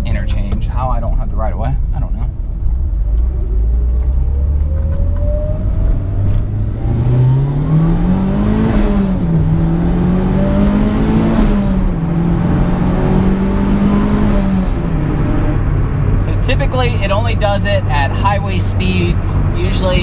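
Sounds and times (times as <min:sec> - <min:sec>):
car engine accelerating hard: 0:02.7 - 0:20.0.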